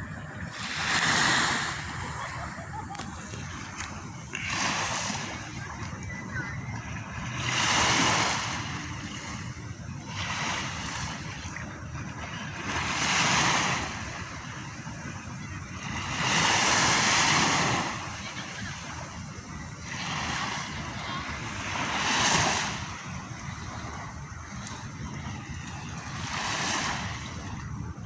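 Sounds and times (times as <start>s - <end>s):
sea waves breaking: 0.0s - 28.0s.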